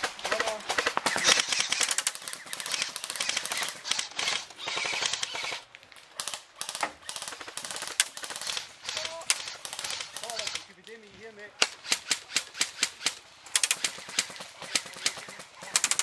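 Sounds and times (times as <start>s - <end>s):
airsoft rifles firing bursts: 0.0s - 10.9s, 11.6s - 16.0s.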